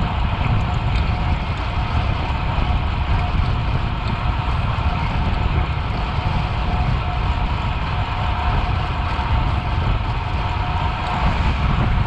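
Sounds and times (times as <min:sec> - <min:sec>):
bicycle road rumble: 0:00.0 - 0:12.0
wind rushing over microphone: 0:00.0 - 0:12.0.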